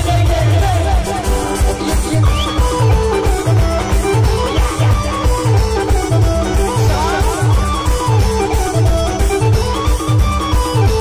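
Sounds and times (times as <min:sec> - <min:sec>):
band music through sound system: 0:00.0 - 0:11.0
heavy bass drum beat: 0:00.0 - 0:11.0
high melody with sliding notes: 0:00.0 - 0:11.0.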